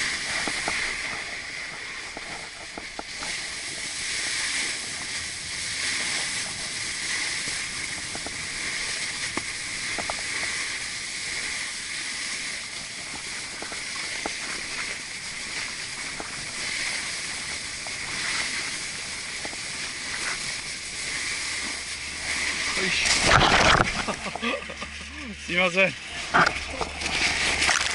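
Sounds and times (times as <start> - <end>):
snowboard scraping on snow: 0.0 - 27.9.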